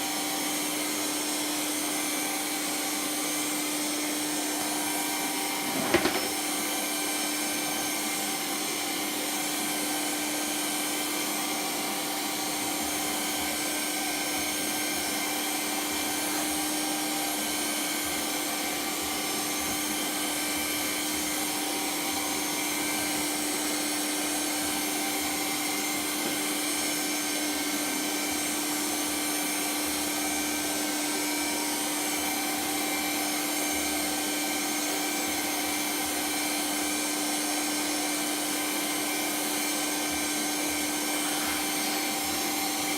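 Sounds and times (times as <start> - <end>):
motor running with humming airflow: 0.0 - 42.9.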